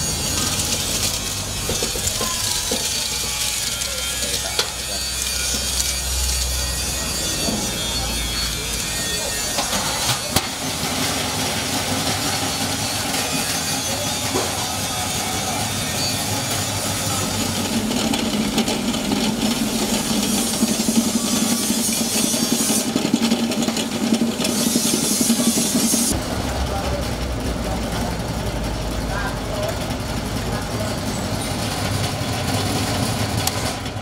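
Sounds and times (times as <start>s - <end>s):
electric oil spinner running: 0.0s - 34.0s.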